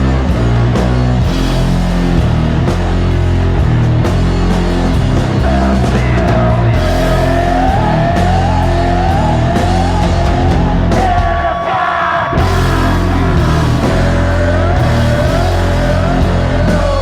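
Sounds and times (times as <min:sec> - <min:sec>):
rock song with sung vocal: 0:00.0 - 0:17.0.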